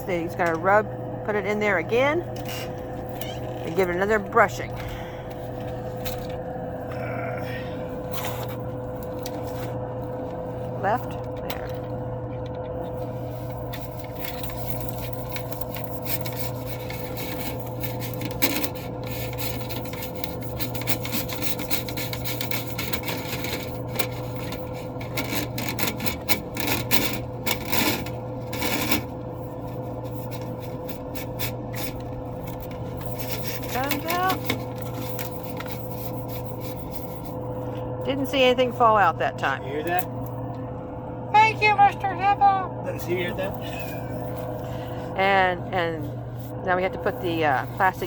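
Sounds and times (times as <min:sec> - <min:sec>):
steady hum: 0:00.0 - 0:48.0
brush scraping inside duct: 0:00.1 - 0:11.0, 0:12.7 - 0:39.0, 0:41.7 - 0:48.0.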